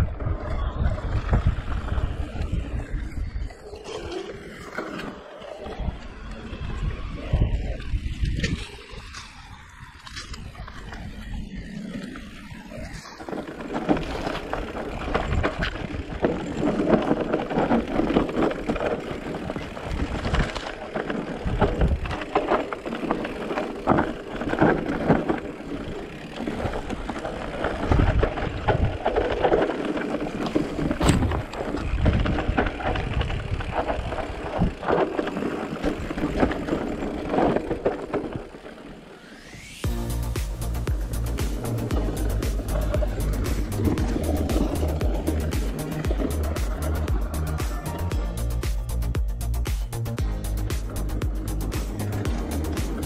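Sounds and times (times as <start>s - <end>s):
wind on microphone: 0.0s - 5.0s, 5.6s - 48.2s
bike knocking and rattling: 0.0s - 39.1s, 39.9s - 53.0s
bike tyres rolling over dirt: 0.0s - 53.0s.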